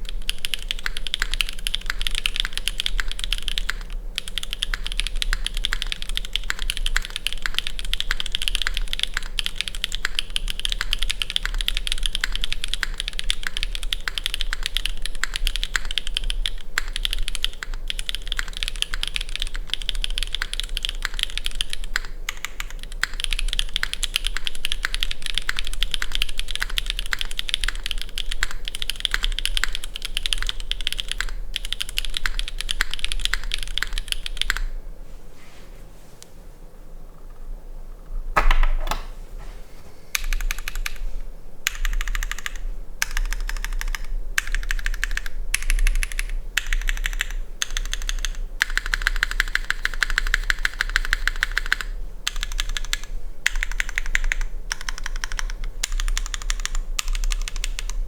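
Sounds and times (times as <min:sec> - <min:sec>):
mechanical keyboard typing: 0:00.0 - 0:34.7, 0:40.2 - 0:41.0, 0:41.6 - 0:58.0.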